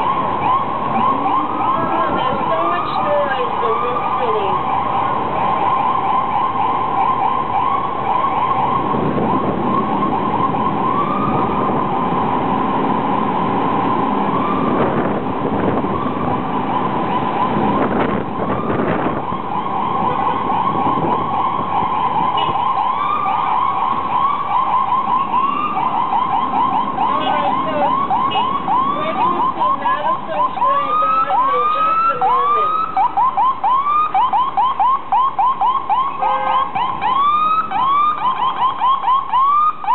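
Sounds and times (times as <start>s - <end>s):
ambulance siren: 0.0s - 39.9s.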